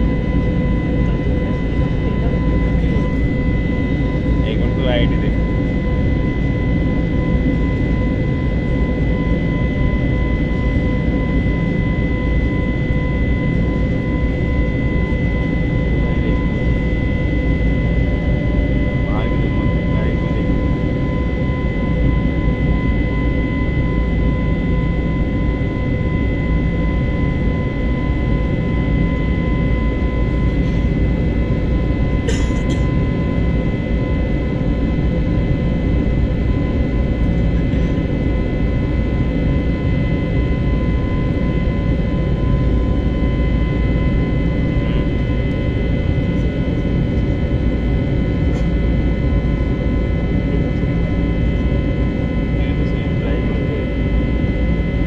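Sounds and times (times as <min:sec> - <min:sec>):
jet engines rumbling: 0:00.0 - 0:55.0
steady whine: 0:00.0 - 0:55.0.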